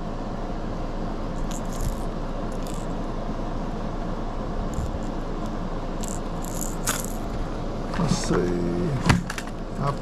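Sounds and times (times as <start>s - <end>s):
air conditioner whirring: 0.0s - 10.0s.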